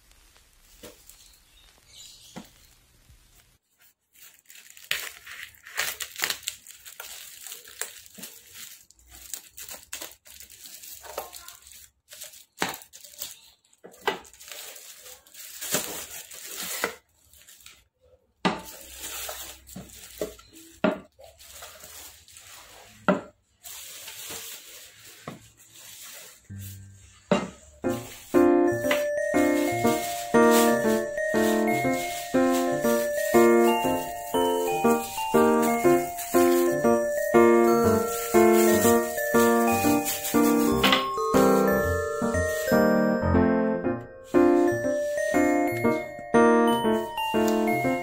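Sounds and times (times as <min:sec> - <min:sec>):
plastic packaging crinkling and tearing: 0:00.0 - 0:26.8, 0:27.9 - 0:43.3, 0:44.2 - 0:46.2.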